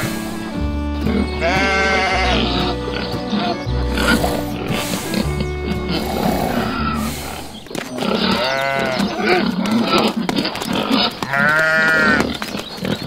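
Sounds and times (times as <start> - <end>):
sheep bleating: 0.0 - 10.0, 11.2 - 12.2
pig grunting: 1.1 - 13.0.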